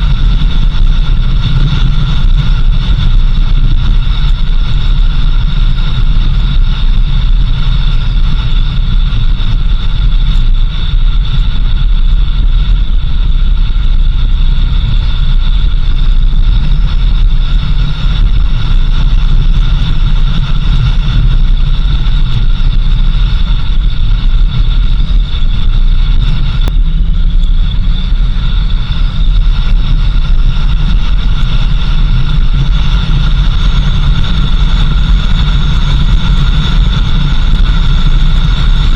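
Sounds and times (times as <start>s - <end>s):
vehicle engine and road rumble: 0.0s - 38.9s.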